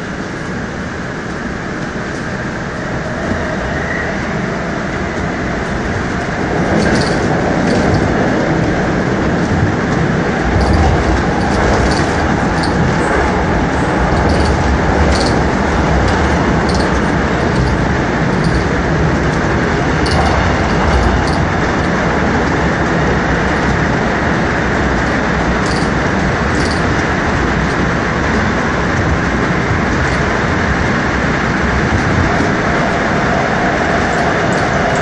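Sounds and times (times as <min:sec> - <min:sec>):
train rumbling through a tunnel: 0:00.0 - 0:35.0.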